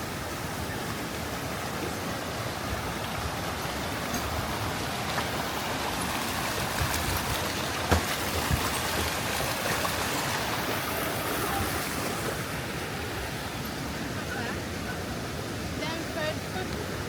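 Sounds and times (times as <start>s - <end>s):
river water rushing over falls: 0.0s - 17.0s.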